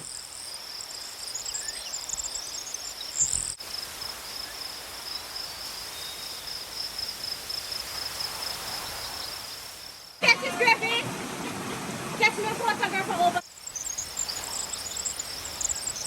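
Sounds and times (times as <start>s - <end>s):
crickets trilling: 0.0s - 11.4s, 12.3s - 16.0s.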